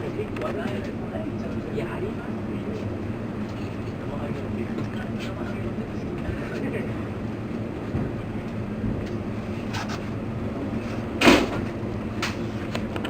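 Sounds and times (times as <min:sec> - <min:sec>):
electric train low rumble: 0:00.0 - 0:13.0.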